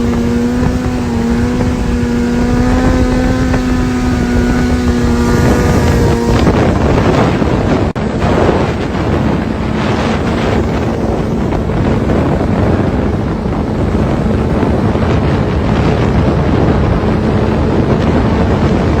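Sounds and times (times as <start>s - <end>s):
motorcycle engine drone: 0.0s - 19.0s
wind buffeting on microphone: 0.0s - 19.0s.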